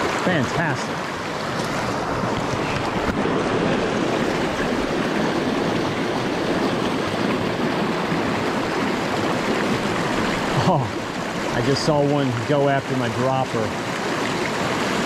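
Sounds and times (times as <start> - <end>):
creek rushing over boulders: 0.0 - 15.0.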